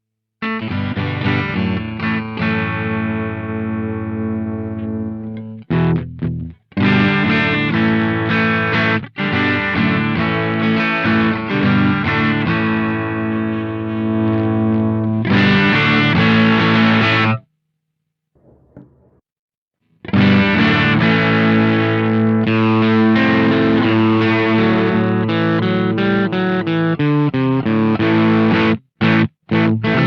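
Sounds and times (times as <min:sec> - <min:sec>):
distorted electric guitar: 0:00.4 - 0:17.4, 0:20.1 - 0:30.0.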